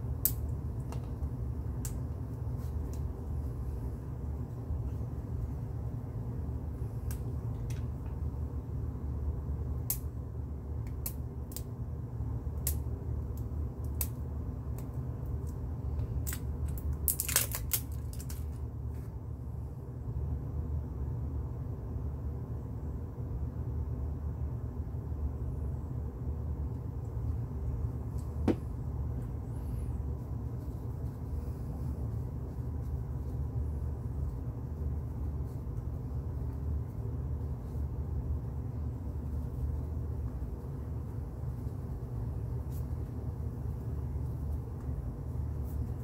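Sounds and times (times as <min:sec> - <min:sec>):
low background hum: 0:00.0 - 0:46.0.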